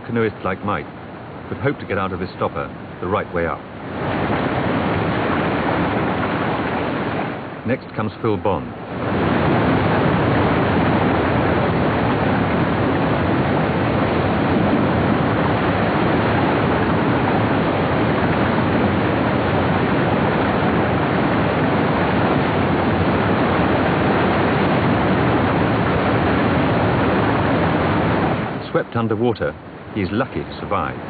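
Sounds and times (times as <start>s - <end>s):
white-water rapids rushing: 0.0s - 31.0s.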